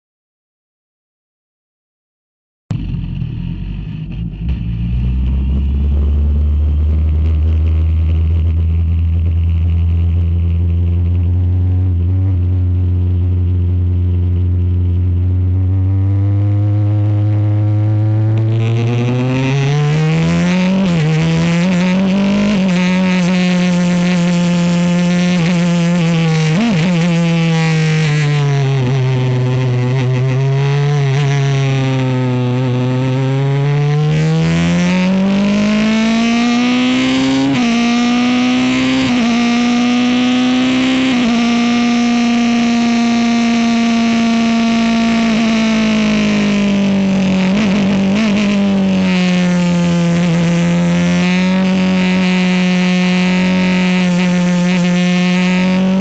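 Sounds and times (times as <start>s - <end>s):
race car engine revving: 2.7s - 56.0s.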